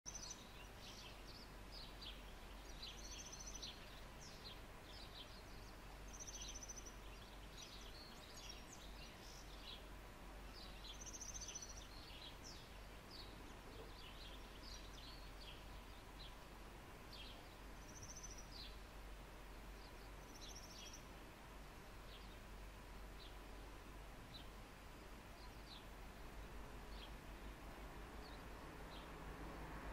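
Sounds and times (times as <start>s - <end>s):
small birds chirping: 0.1s - 29.9s.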